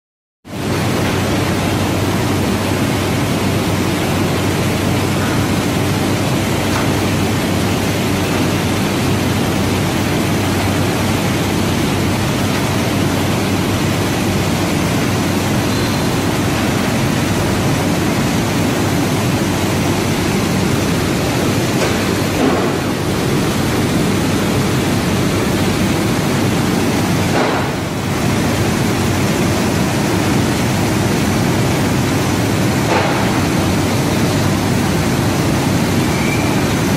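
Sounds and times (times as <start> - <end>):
machinery and steam noise: 0.5 - 36.9.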